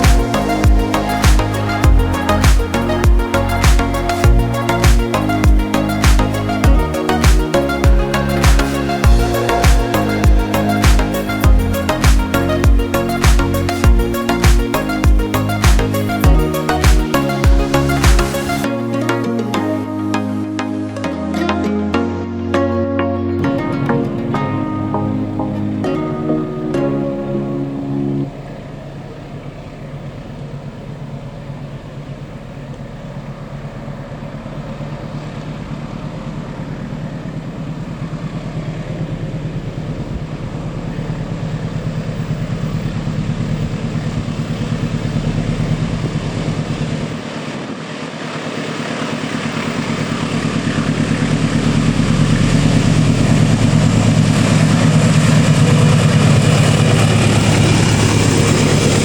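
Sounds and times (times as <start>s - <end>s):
diesel locomotive engine drone: 0.0s - 20.2s, 21.4s - 59.0s.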